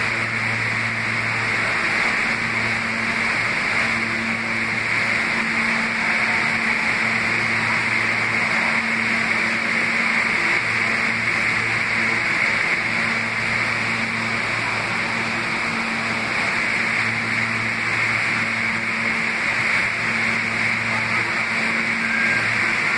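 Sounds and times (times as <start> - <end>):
low hum: 0.0 - 22.9
subway train rumble and hiss: 0.0 - 22.9.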